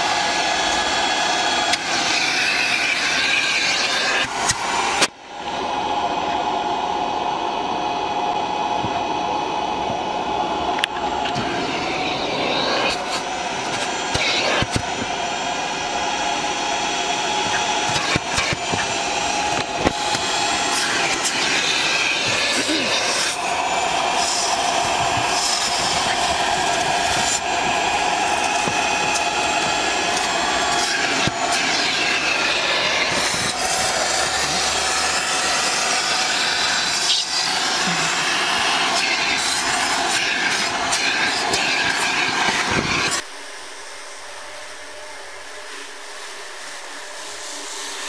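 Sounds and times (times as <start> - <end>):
extraction vacuum suction: 0.0 - 5.9, 8.3 - 43.3.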